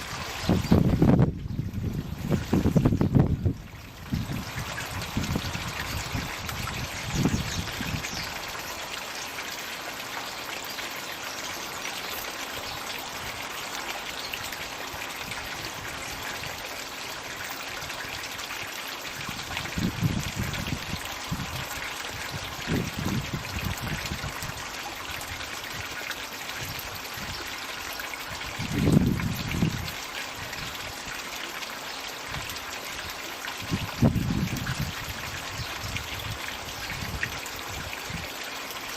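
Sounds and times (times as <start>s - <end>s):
water pouring into pond: 0.0s - 38.9s.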